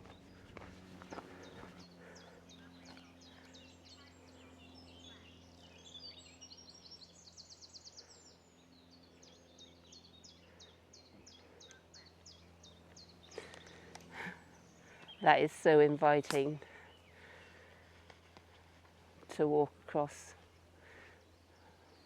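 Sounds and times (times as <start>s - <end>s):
songbirds chirping and singing: 0.0s - 17.9s
faint low hum: 0.0s - 22.0s.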